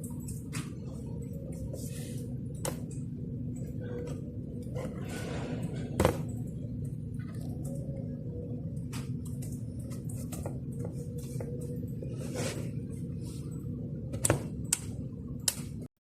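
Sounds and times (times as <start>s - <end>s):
heater fan motor humming: 0.0s - 16.0s.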